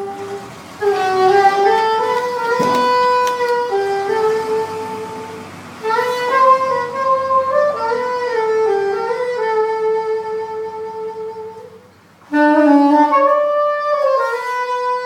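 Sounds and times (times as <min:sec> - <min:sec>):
slow melody in long held notes: 0:00.0 - 0:15.0.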